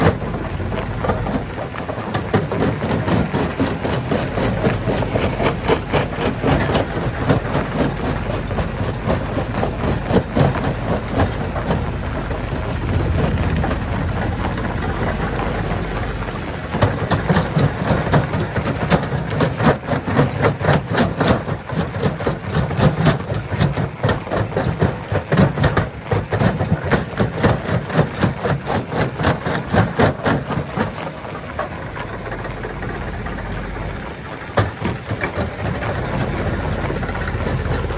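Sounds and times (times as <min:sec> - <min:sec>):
heavy engine running: 0:00.0 - 0:37.9
rock crushing knocks and rattles: 0:00.0 - 0:37.9.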